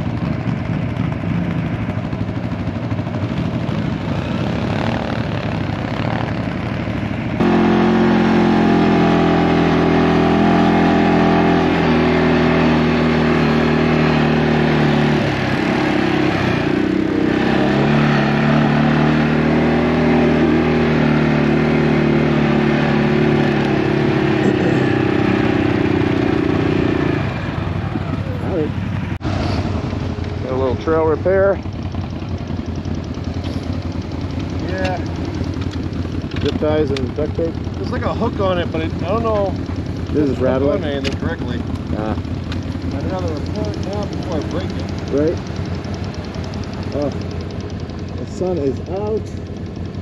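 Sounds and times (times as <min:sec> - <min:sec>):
atv engines running: 0:00.0 - 0:50.0.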